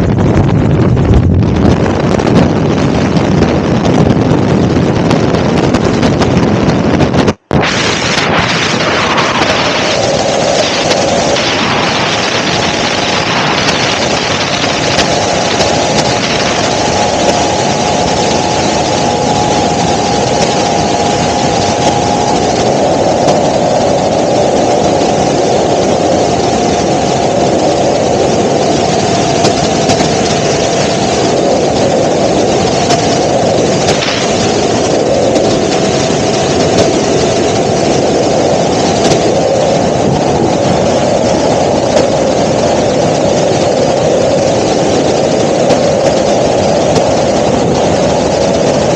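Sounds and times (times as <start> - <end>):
helicopter engine and rotor: 0.0 - 48.9.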